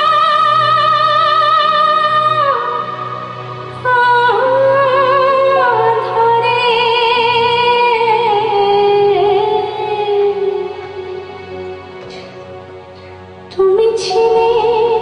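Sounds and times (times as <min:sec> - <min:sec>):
woman singing with vibrato: 0:00.0 - 0:11.4, 0:13.5 - 0:15.0
keyboard accompaniment: 0:00.0 - 0:15.0.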